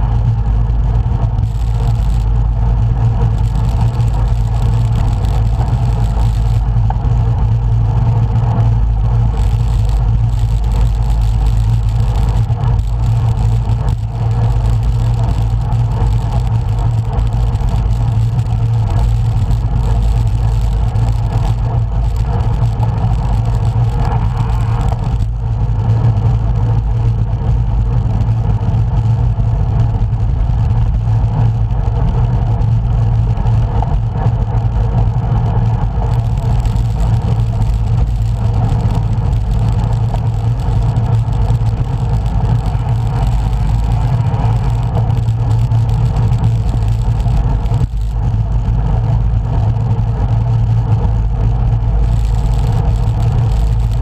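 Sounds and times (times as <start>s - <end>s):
bicycle road noise: 0.0s - 54.0s
wind rumble: 0.0s - 54.0s.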